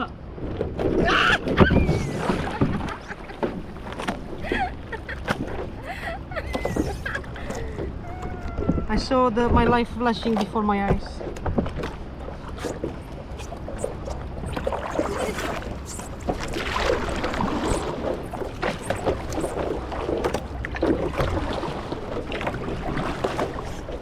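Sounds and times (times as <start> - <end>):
water splashing around boat: 0.0 - 24.0
wind rumbling on microphone: 0.0 - 24.0.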